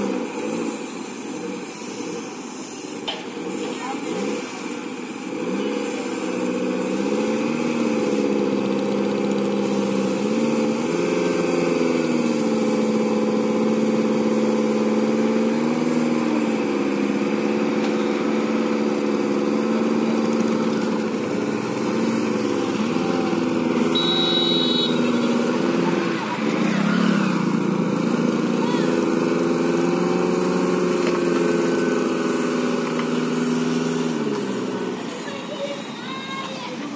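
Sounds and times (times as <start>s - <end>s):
car engine revving under load: 0.0s - 35.3s.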